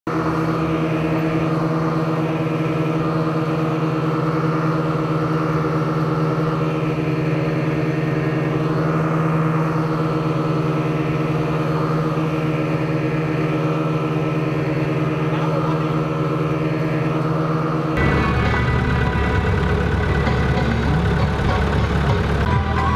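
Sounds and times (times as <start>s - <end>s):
engine droning hum: 0.1s - 22.9s.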